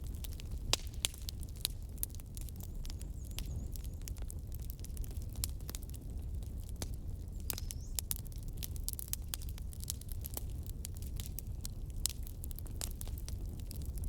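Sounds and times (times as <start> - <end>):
low rumble of flames: 0.0 - 14.0
wood fire crackles and pops: 0.0 - 14.0.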